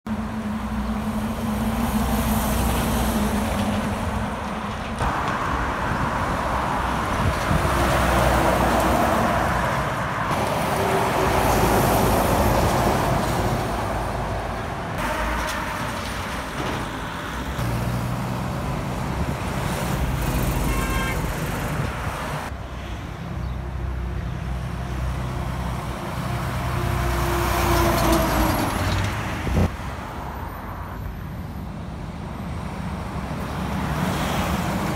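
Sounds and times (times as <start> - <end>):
diesel trucks passing: 0.1 - 34.9.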